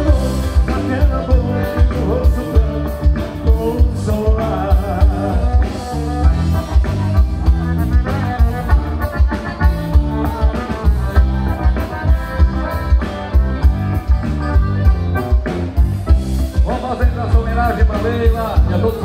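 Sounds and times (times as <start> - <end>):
live band playing: 0.0 - 19.0.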